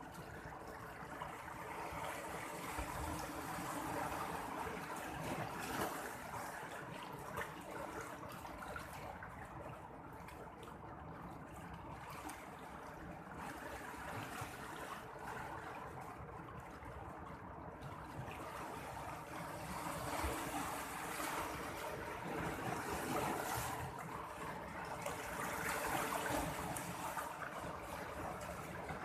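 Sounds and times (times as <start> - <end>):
sea water washing and lapping: 0.0 - 29.0.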